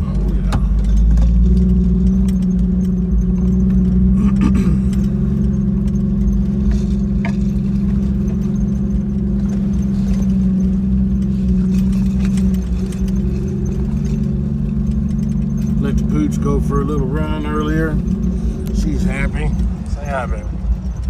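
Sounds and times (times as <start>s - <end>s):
car engine running: 0.0s - 21.0s
vehicle rattles and clicks: 0.0s - 21.0s.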